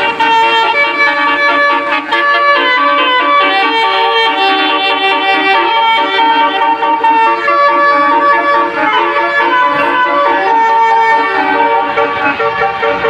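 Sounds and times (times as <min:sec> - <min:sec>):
bus air horn melody: 0:00.0 - 0:13.0.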